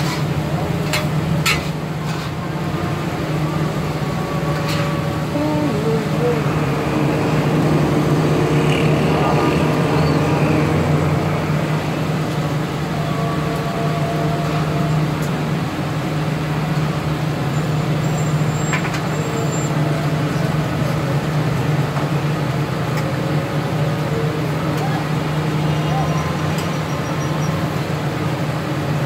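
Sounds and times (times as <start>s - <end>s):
street traffic hum: 0.0s - 29.0s.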